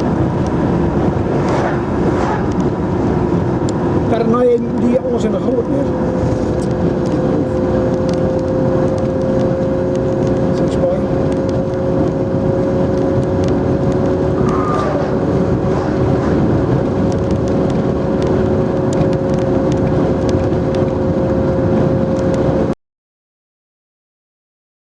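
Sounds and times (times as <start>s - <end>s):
engine droning: 0.0s - 22.8s
rough noisy rumble: 0.0s - 22.8s.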